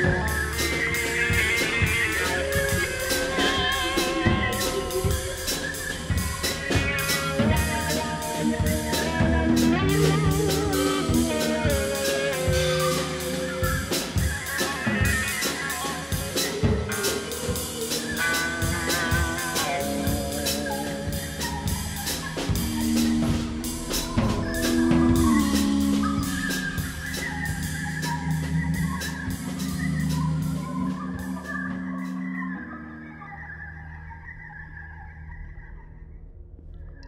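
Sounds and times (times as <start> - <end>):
busy drum kit: 0.0 - 32.6
electro-jazz band playing: 0.0 - 33.3
electric guitar with effects: 0.0 - 34.6.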